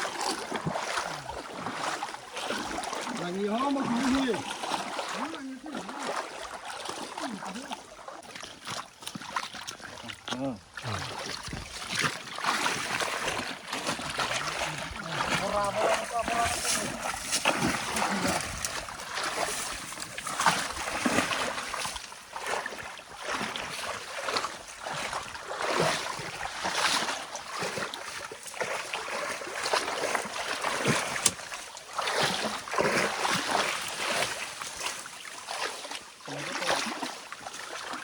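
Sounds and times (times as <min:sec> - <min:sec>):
stream water splashing: 0:00.0 - 0:38.0.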